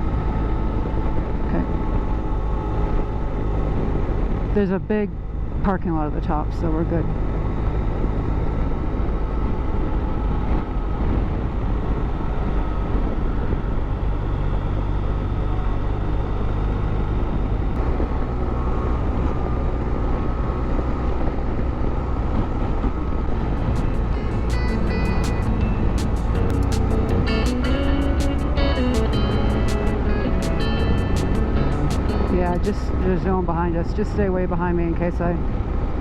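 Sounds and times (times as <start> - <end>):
wind and road rush: 0.0 - 36.0.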